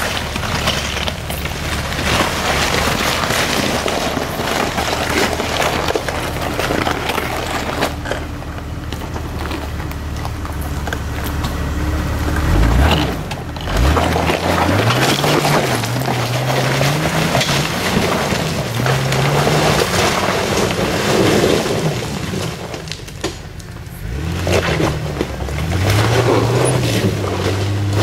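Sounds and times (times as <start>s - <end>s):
car engine running under load: 0.0s - 28.0s
rocks clicking and knocking: 0.0s - 28.0s
tyres crunching over stones: 0.0s - 28.0s.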